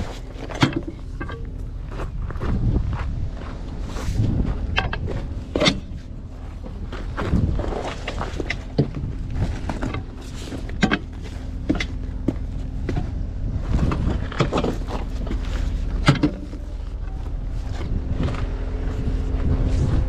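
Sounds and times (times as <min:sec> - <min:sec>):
footsteps on gravel: 0:00.0 - 0:20.0
truck engine idling: 0:00.0 - 0:20.0.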